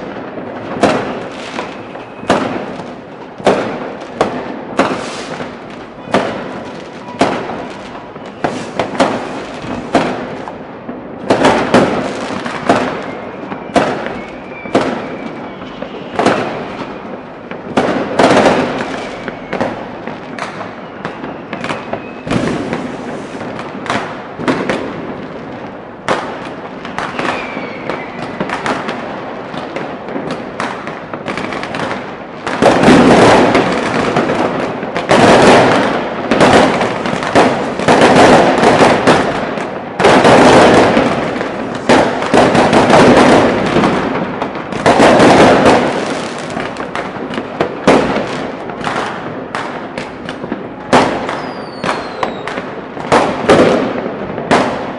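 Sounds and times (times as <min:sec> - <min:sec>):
firework whistle: 0:00.0 - 0:10.6, 0:11.3 - 0:24.8, 0:26.2 - 0:44.0, 0:50.0 - 0:54.9
fireworks bangs and pops: 0:00.0 - 0:54.9.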